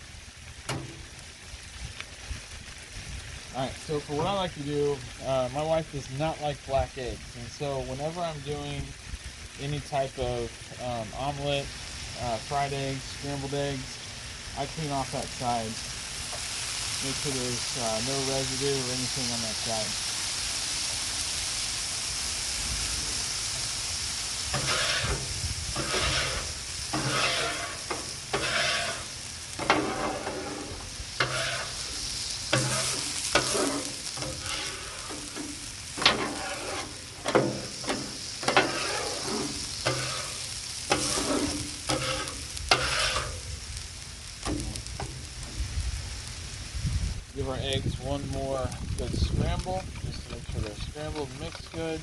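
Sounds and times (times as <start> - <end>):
food sizzling on a griddle: 0.0 - 52.0.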